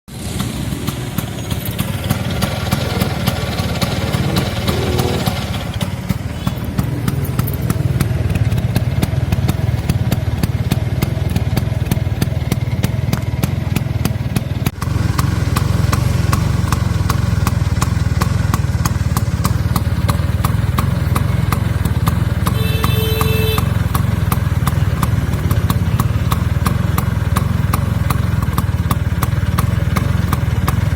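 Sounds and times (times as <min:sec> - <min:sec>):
scooter engine idling: 0:00.1 - 0:30.9.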